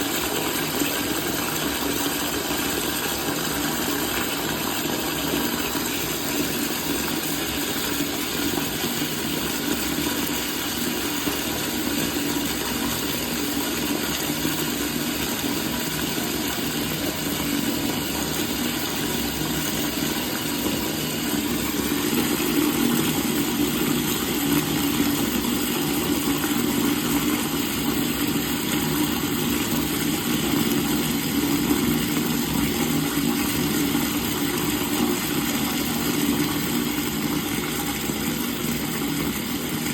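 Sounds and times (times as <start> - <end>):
water running from a faucet: 0.0 - 39.9.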